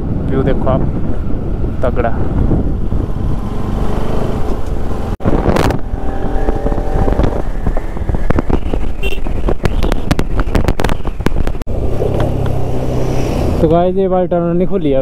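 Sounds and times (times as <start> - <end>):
wind noise: 0.0 - 14.2.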